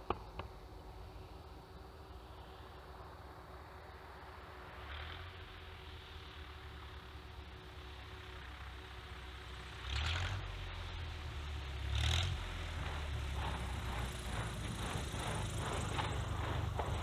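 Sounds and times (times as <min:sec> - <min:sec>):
light aircraft engine: 0:00.0 - 0:17.0.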